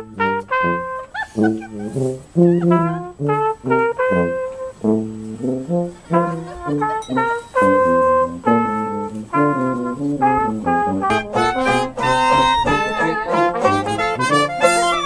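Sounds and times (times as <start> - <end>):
brass band playing: 0.0 - 15.0
clarinet: 0.0 - 15.0.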